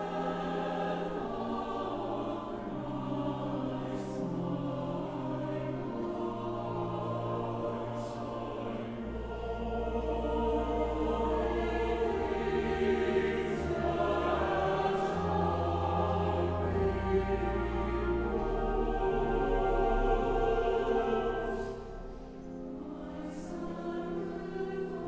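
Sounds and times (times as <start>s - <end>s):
choir singing sustained chords: 0.0s - 25.0s.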